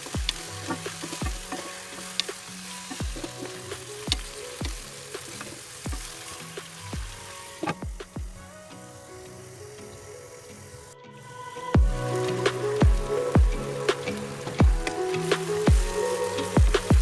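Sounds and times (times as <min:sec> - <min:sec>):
background music with kick drum: 0:00.0 - 0:08.5, 0:11.8 - 0:17.0
food sizzling in a pan: 0:00.0 - 0:17.0.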